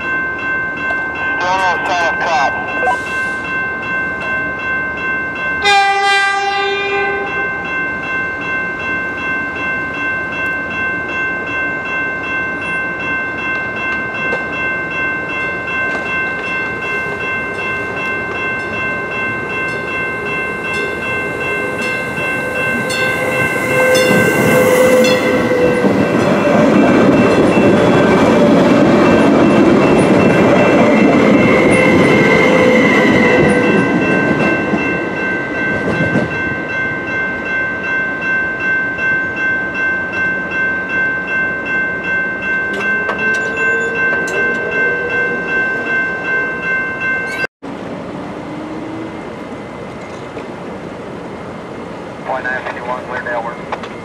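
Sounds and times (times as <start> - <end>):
crossing bell ringing: 0.0 - 47.5
passenger train passing: 0.0 - 54.0.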